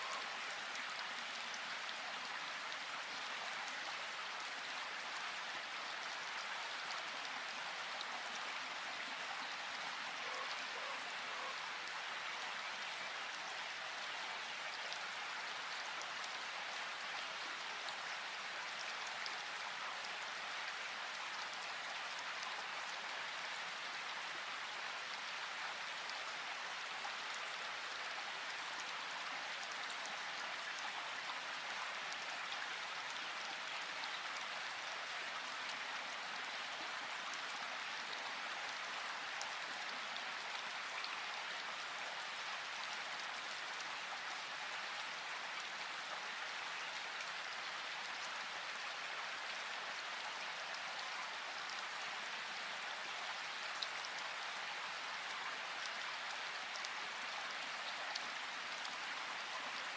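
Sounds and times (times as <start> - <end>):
river water flowing and splashing: 0.0 - 59.9.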